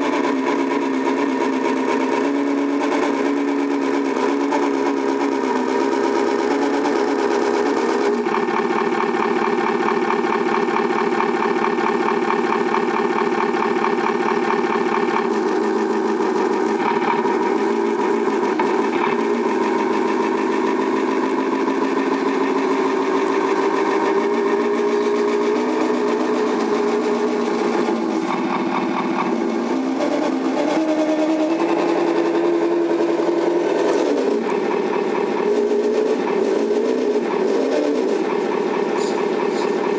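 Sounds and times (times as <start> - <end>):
simulated diesel engine from speaker: 0.0 - 39.9.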